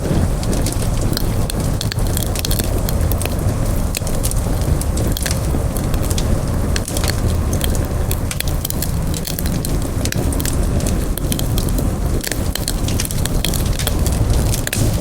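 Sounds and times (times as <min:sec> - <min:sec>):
campfire wood crackling and popping: 0:00.0 - 0:15.0
low rumble: 0:00.0 - 0:15.0.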